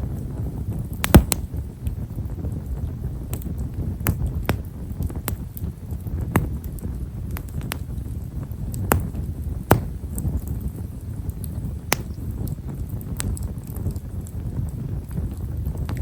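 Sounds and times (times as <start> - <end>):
campfire crackling with pops: 0.0 - 16.0
low steady fire rumble: 0.0 - 16.0.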